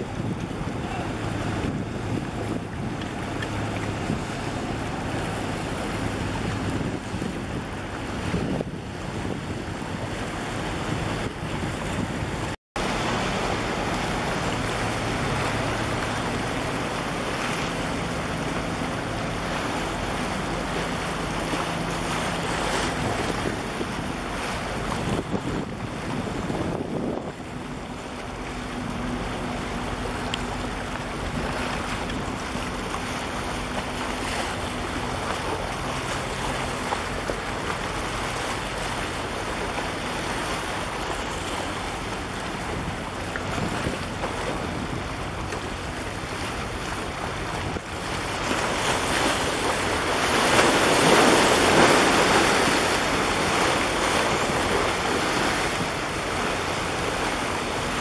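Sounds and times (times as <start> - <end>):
faint low engine drone: 0.0 - 58.0
sea waves splashing against concrete: 0.0 - 58.0
wind buffeting microphone: 0.0 - 58.0.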